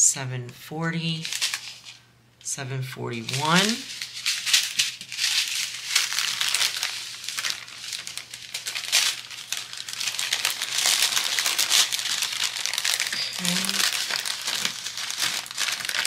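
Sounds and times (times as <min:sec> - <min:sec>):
plastic bags crinkling: 0:01.1 - 0:02.0, 0:03.2 - 0:16.0.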